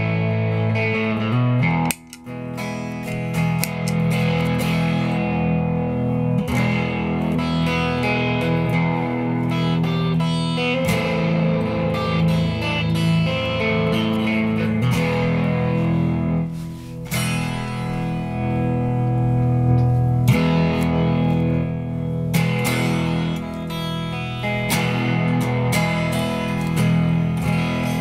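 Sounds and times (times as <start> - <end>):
electric guitar ringing chords: 0.0 - 28.0.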